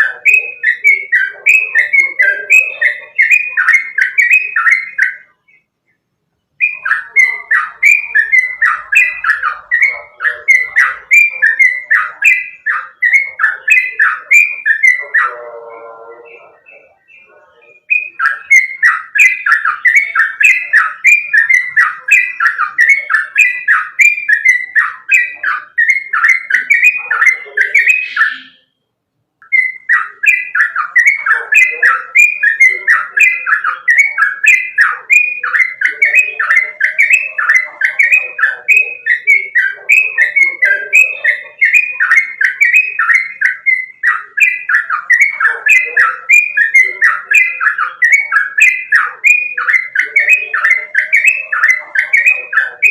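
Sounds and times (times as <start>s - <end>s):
bulbul chattering song: 0.0s - 52.9s.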